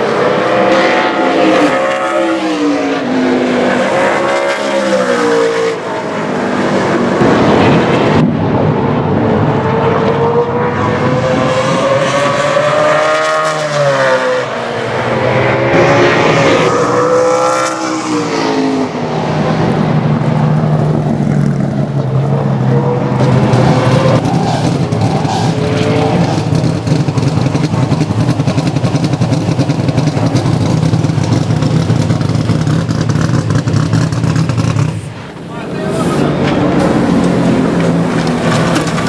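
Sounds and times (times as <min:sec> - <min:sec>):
race car passing at speed: 0:00.0 - 0:32.0, 0:33.0 - 0:39.0.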